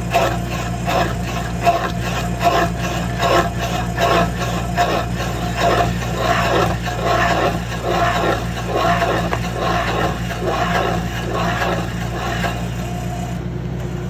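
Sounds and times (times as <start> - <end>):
machine drone: 0.0 - 14.0
stump planer grinding wood: 0.0 - 14.0.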